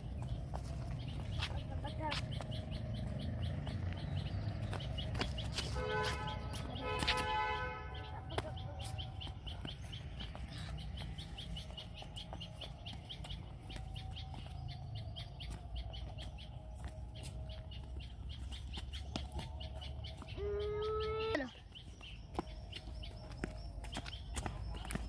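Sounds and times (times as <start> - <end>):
high-pitched bird call: 0.0 - 25.0
small birds chirping: 0.0 - 25.0.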